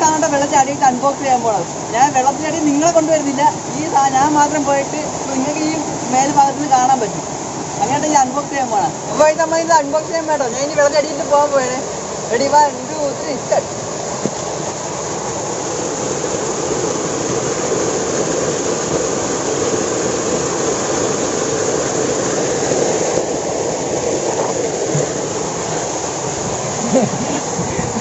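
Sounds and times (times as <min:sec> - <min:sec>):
swimmer splashing: 0:00.0 - 0:28.0
waterfall pouring into pool: 0:00.0 - 0:28.0.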